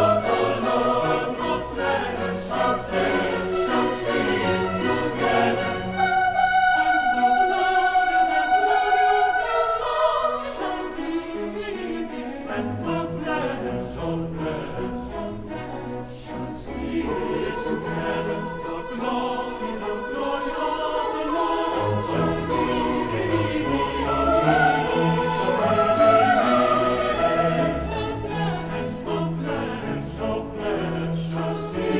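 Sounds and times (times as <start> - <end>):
choir singing: 0.0 - 31.9.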